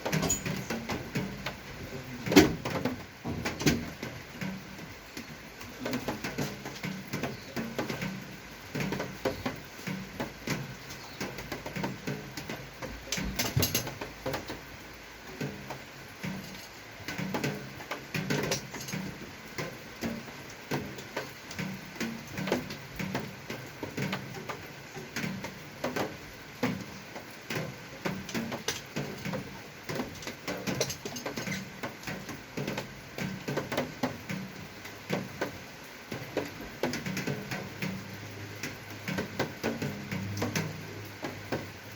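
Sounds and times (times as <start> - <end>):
light clicks and knocks of parts: 0.0 - 41.9.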